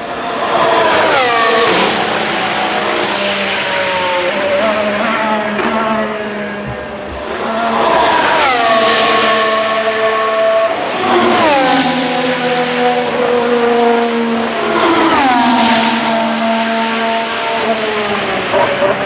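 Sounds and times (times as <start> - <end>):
racing cars passing at speed: 0.0 - 19.0.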